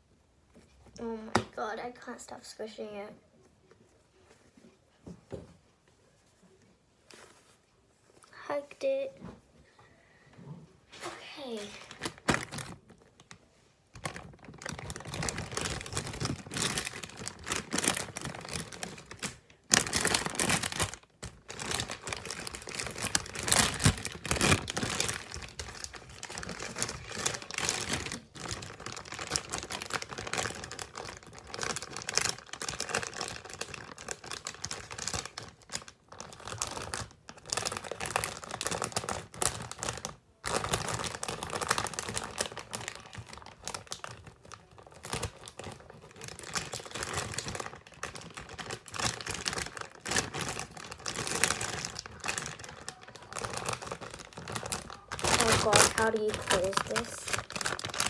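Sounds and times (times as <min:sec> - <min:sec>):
plastic packaging crinkling: 0:11.0 - 0:58.0.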